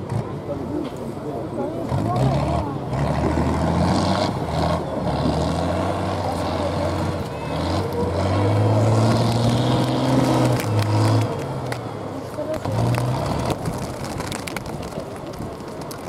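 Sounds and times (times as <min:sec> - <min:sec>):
diesel truck engine under load: 0:00.0 - 0:16.0.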